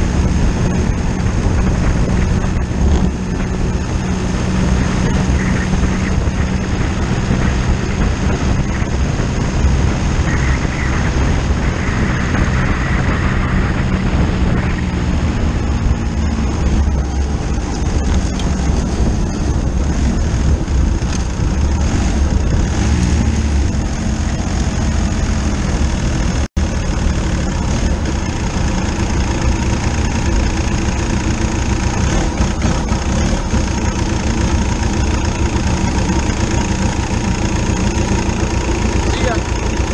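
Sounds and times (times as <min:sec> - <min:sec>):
diesel motorcycle engine running: 0:00.0 - 0:39.9.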